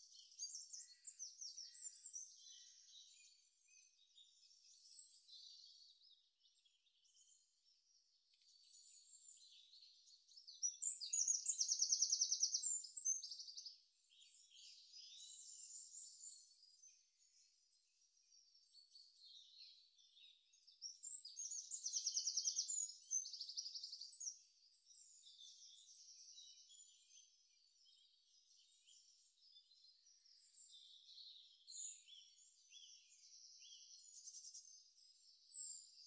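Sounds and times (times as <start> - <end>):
songbird chirping: 0.0 - 36.0.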